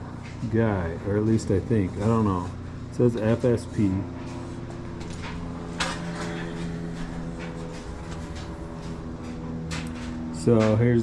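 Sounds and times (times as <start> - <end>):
steady pitched hum: 0.0 - 11.0.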